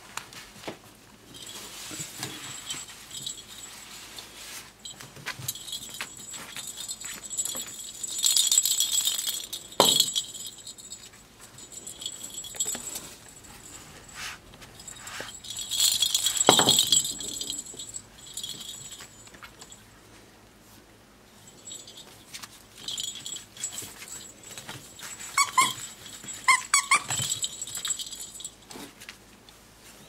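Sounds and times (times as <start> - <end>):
toy ball bell jingling: 1.4 - 3.9, 4.9 - 19.8, 21.5 - 28.6.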